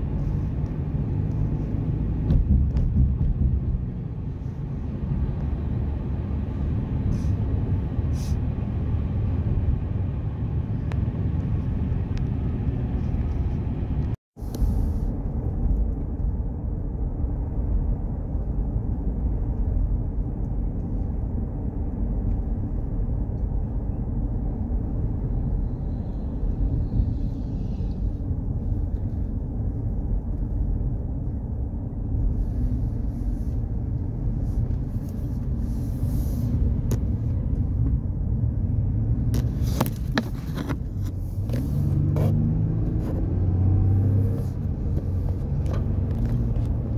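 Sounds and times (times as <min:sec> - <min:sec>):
car cabin road and engine rumble: 0:00.0 - 0:46.9.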